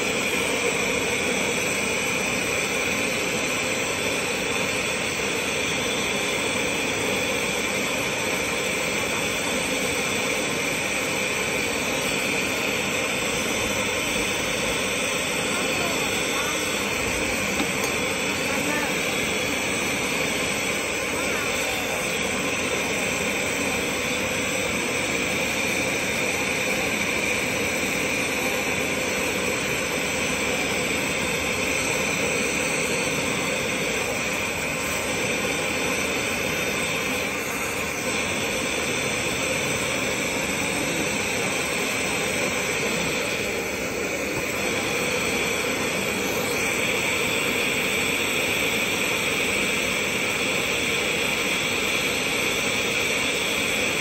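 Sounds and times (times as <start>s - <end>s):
gas torch flame hissing: 0.0s - 54.0s.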